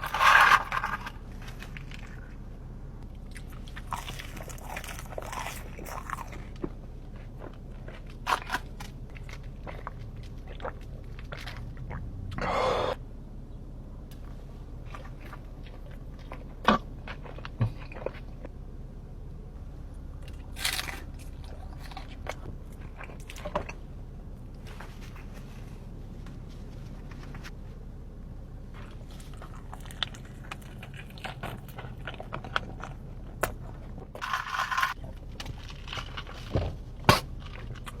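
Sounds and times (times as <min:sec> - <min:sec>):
taco crunching: 0:00.0 - 0:12.4, 0:14.8 - 0:18.5, 0:20.2 - 0:27.6, 0:28.7 - 0:38.0
quiet chewing with crackles: 0:03.0 - 0:12.4, 0:14.1 - 0:18.6, 0:20.2 - 0:27.8, 0:28.6 - 0:38.0.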